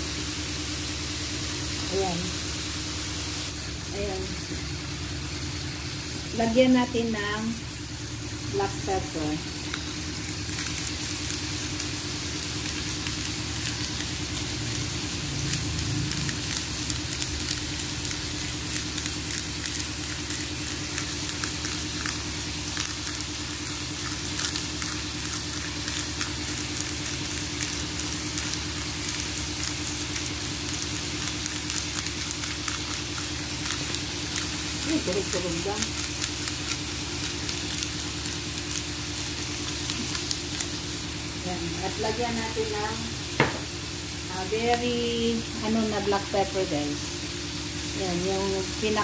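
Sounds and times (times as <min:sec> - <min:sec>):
meat sizzling in oil: 0:00.0 - 0:49.0.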